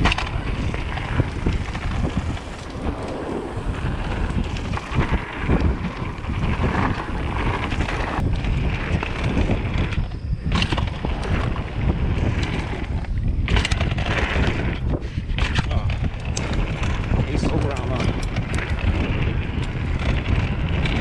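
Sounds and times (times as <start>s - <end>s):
bike rattling over bumps: 0.0s - 21.0s
tyres rumbling on dirt: 0.0s - 21.0s
wind rushing over microphone: 0.0s - 21.0s.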